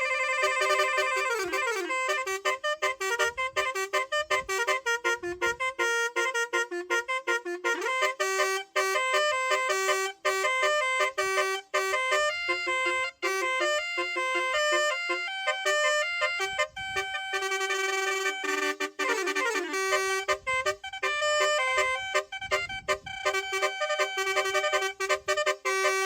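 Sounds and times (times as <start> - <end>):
truck melody horn: 0.0 - 26.0.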